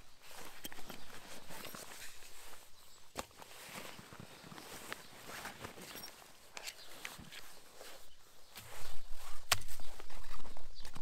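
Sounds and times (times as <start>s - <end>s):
footsteps on forest floor: 0.0s - 10.7s.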